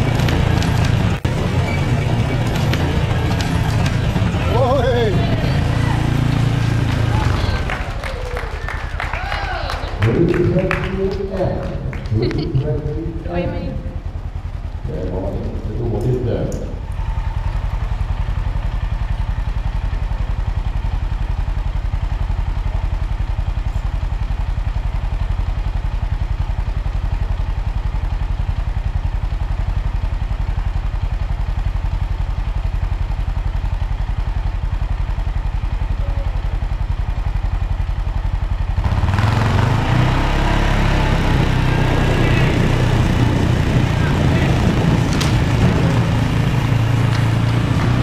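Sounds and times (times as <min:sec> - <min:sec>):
quad bike engine idling: 0:00.0 - 0:48.0.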